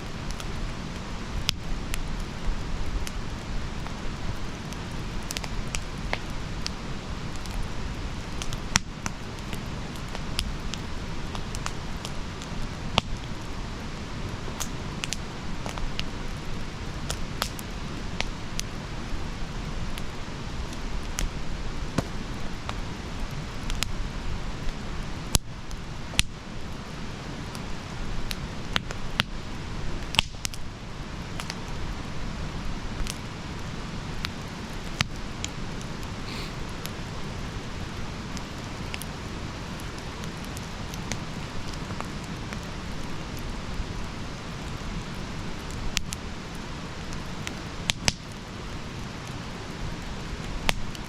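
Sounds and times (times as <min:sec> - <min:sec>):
burning wood crackling: 0:00.0 - 0:51.0
campfire flame rushing: 0:00.0 - 0:51.0.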